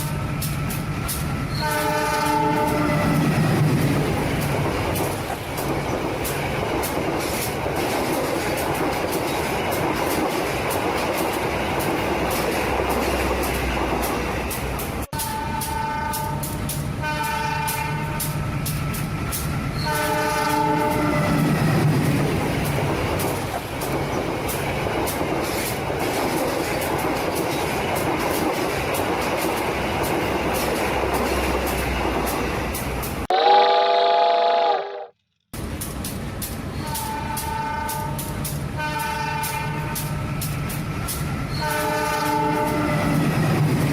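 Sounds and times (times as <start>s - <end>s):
train wheel clicks: 0.0s - 33.3s, 35.6s - 43.9s
train rumbling on rails: 0.0s - 34.2s, 35.5s - 43.9s.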